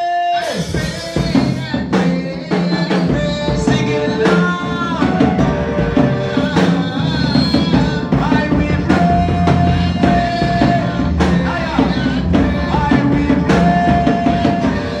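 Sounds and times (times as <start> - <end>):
gospel worship music: 0.0 - 15.0
drum kit steady beat: 0.4 - 15.0.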